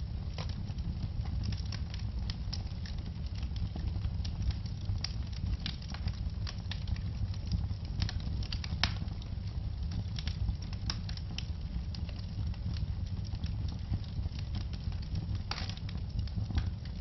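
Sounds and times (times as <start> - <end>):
low rumble of flame: 0.0 - 17.0
wood fire crackling and popping: 0.0 - 17.0.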